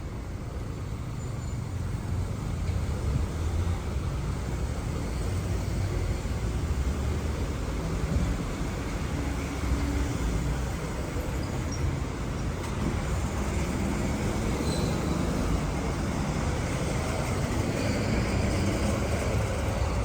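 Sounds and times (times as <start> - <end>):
rumble of passing traffic: 0.0 - 20.0.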